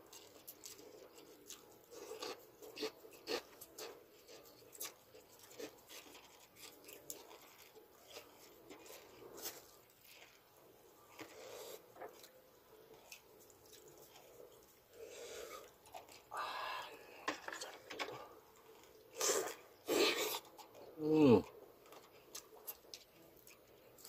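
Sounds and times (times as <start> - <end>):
wet chewing noises: 0.0 - 24.0.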